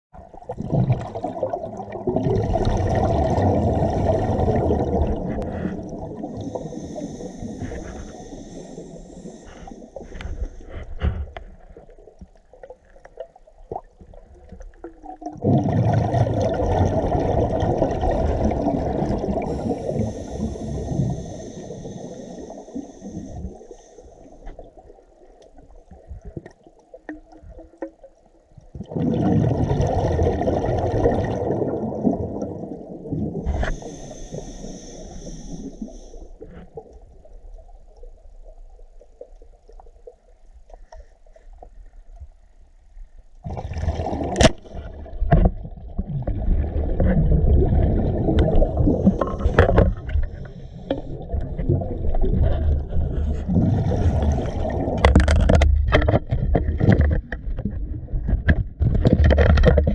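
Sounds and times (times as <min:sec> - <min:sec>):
underwater rushing and bubbling: 0:00.1 - 0:59.9.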